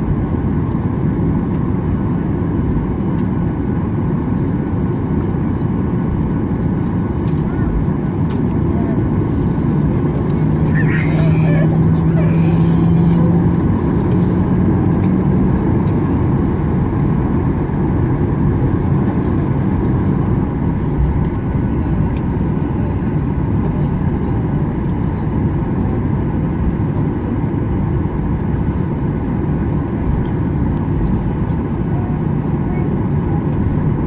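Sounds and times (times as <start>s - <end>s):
aircraft cabin engine noise: 0.0s - 34.0s.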